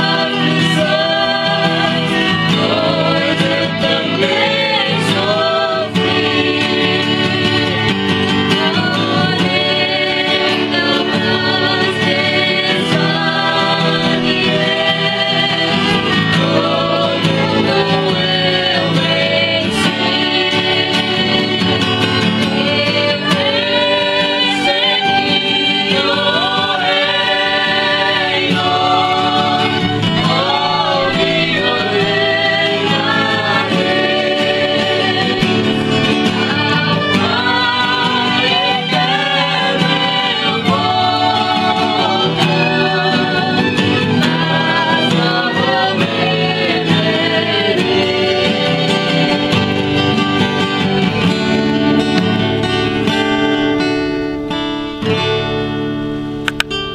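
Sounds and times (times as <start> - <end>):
group singing a hymn: 0.0 - 53.8
acoustic guitars: 0.0 - 56.9.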